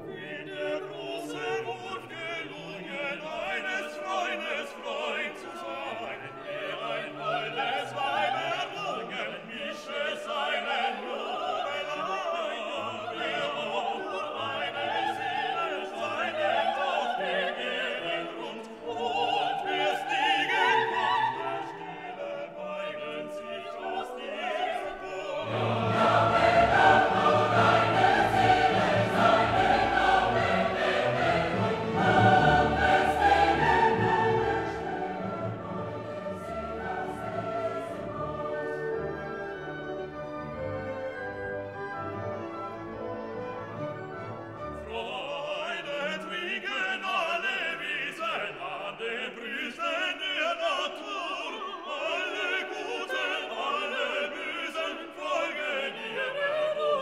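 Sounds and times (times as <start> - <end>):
operatic singing over an orchestra: 0.0 - 57.0.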